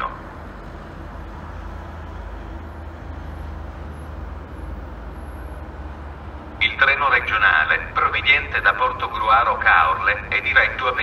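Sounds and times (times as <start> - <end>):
locomotives rumbling and humming: 0.0 - 11.0.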